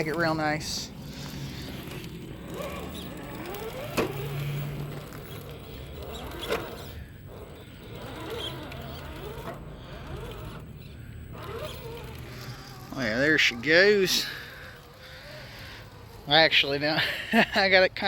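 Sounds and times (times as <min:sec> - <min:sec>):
toy car electric motor whining: 0:00.0 - 0:17.1.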